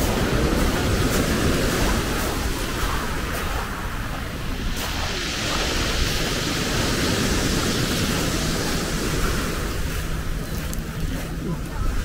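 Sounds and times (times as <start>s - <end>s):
sea waves on pebble beach: 0.0s - 12.0s
wind rumble on microphone: 0.0s - 12.0s.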